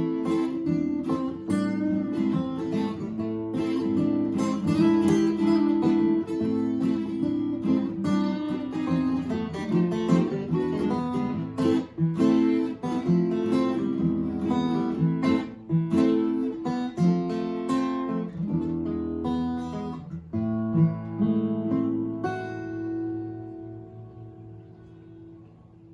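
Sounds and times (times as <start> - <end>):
backup guitar: 0.0 - 25.9
lead guitar picking melody: 0.0 - 25.9.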